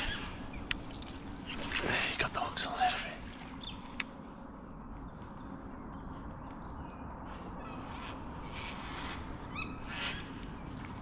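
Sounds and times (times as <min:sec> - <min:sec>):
birds calling: 0:00.0 - 0:10.9.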